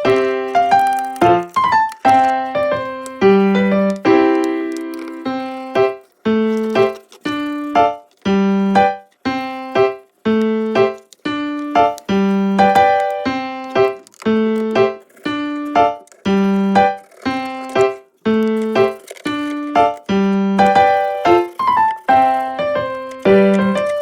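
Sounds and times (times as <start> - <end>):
bouncy keyboard melody: 0.0 - 24.0.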